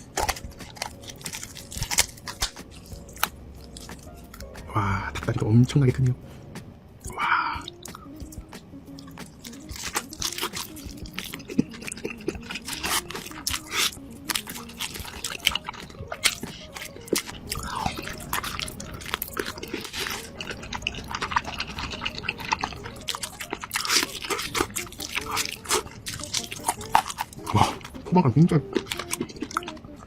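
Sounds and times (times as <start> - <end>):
wet chewing and smacking: 0.0 - 5.3, 7.0 - 30.0.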